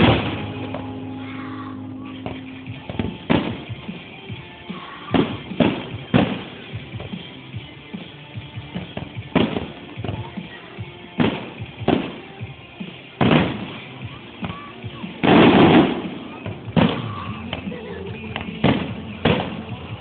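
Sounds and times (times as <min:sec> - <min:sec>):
fireworks bursting with bangs: 0:00.0 - 0:00.9, 0:02.2 - 0:17.7, 0:18.4 - 0:20.0
background music: 0:00.0 - 0:20.0.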